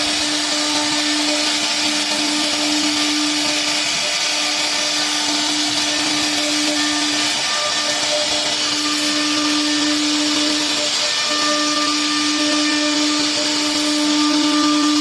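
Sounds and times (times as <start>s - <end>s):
loud hiss: 0.0s - 15.0s
router spindle whine: 0.0s - 15.0s.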